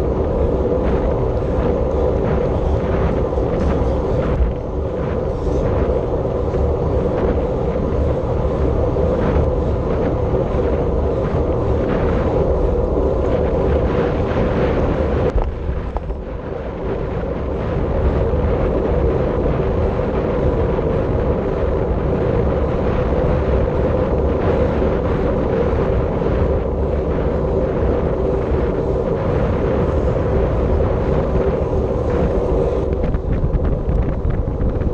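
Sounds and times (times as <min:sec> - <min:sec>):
constant hum: 0:00.0 - 0:34.9
wind rushing over microphone: 0:00.0 - 0:34.9.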